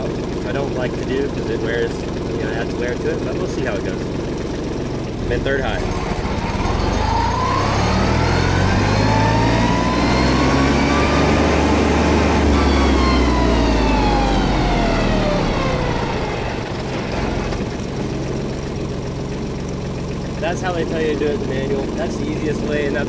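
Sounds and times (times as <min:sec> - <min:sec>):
tractor diesel engine: 0:00.0 - 0:23.0.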